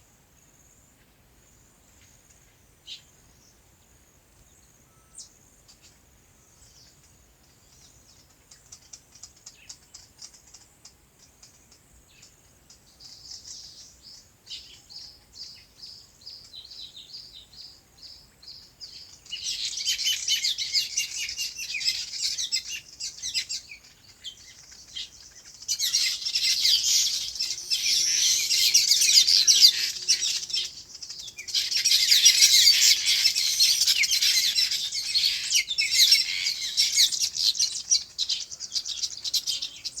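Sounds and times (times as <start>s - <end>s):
small birds chirping: 1.9s - 40.0s.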